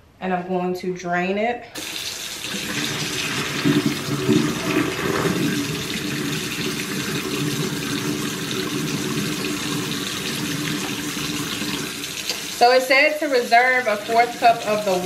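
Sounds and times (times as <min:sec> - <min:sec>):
faucet running into sink: 0:01.8 - 0:15.0
water splashing into sink: 0:01.8 - 0:15.0.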